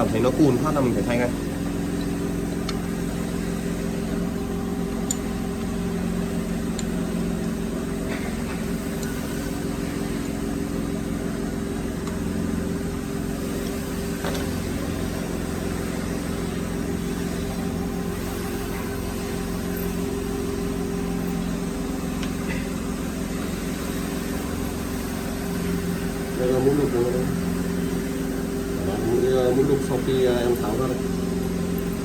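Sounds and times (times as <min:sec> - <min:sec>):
workshop machinery humming: 0:00.0 - 0:32.0.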